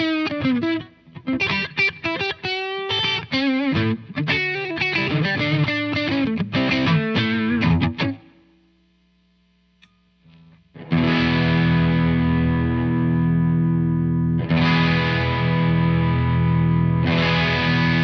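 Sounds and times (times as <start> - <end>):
overdriven electric guitar: 0.0 - 8.5, 10.3 - 18.0.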